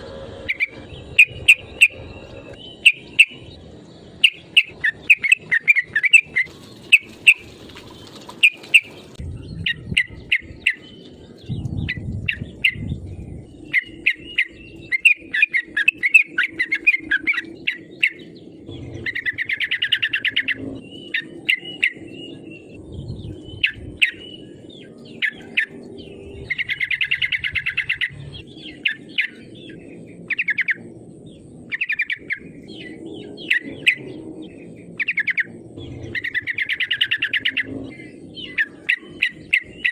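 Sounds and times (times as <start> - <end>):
bird chattering trills: 0.0 - 39.9
bird chirping phrases: 0.0 - 39.9.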